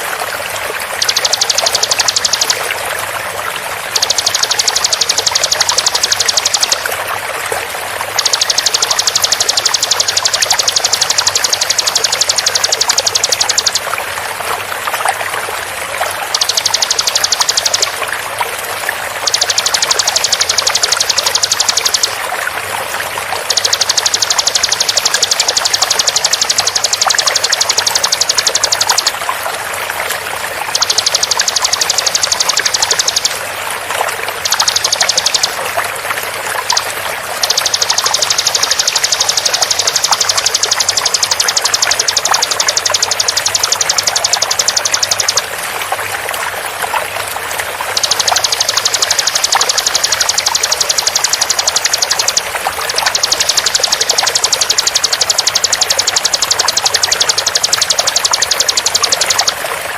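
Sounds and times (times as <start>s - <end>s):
flowing water: 0.0s - 59.9s
bird rapid high call: 0.8s - 3.1s, 3.8s - 7.1s, 8.0s - 14.1s, 16.0s - 18.3s, 19.0s - 29.4s, 30.5s - 33.6s, 34.2s - 35.8s, 36.4s - 45.5s, 47.8s - 59.6s.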